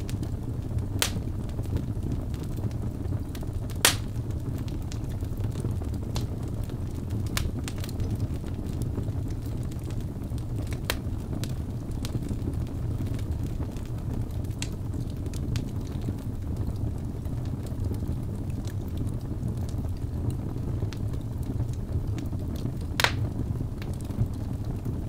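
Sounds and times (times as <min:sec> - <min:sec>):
fire crackling and popping: 0:00.0 - 0:25.0
low rumble of flames: 0:00.0 - 0:25.0.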